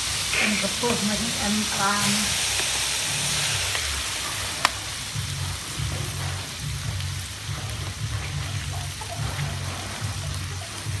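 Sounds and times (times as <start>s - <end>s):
crabs sizzling in a wok: 0.0s - 11.0s
seasoning being poured: 0.0s - 11.0s.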